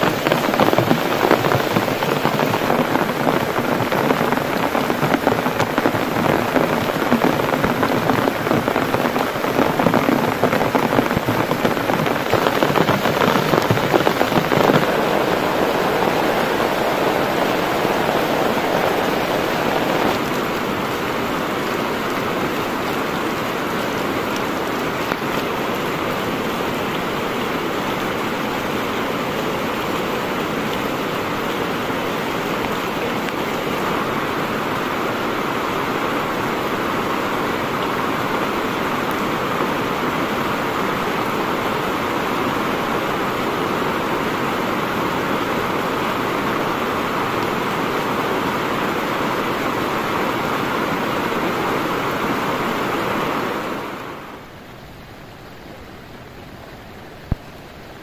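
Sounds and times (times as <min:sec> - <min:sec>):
flooded river rushing: 0:00.0 - 0:58.0
heavy rain on a tarp: 0:00.0 - 0:58.0.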